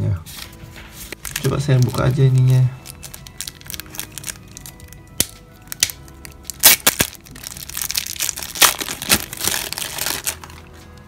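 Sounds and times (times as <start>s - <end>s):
plastic bag crinkling: 1.1s - 11.0s.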